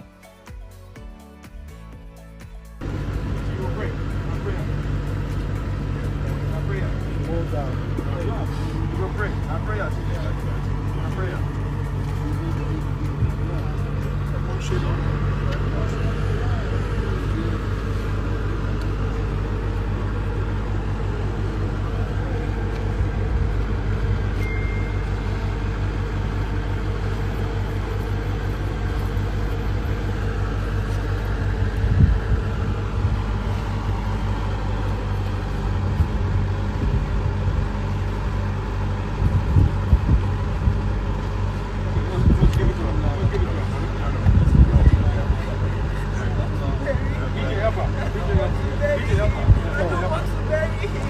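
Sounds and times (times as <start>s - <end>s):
low engine hum: 0.0s - 51.0s.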